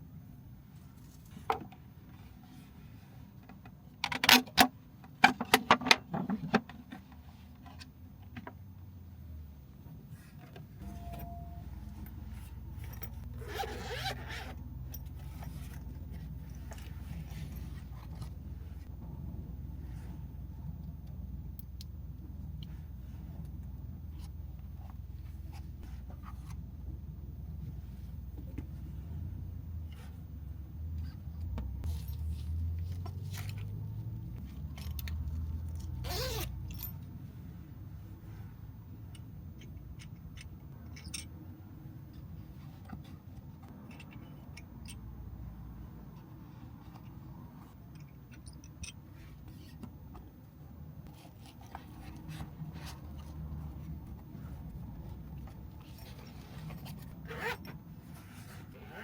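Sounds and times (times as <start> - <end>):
low steady rumble: 6.2 - 59.0.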